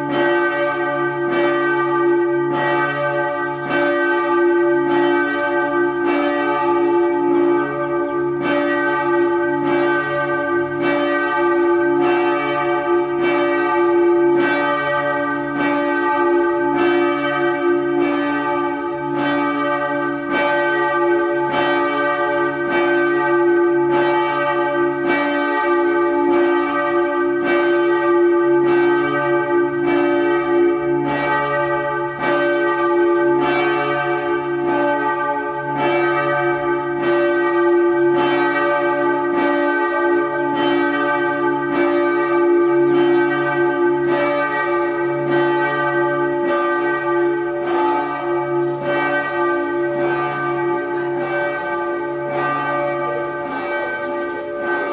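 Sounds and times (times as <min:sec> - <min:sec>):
bells ringing: 0:00.0 - 0:54.9.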